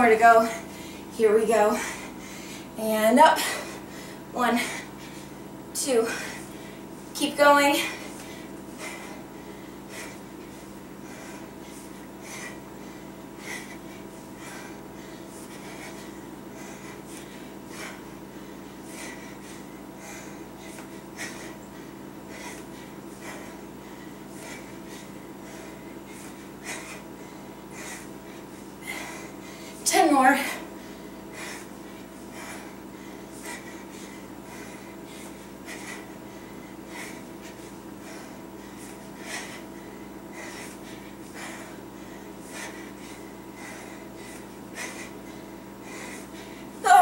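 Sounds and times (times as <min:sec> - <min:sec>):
faint hum: 0:00.0 - 0:47.0
woman breathing hard: 0:00.4 - 0:07.1, 0:07.7 - 0:47.0.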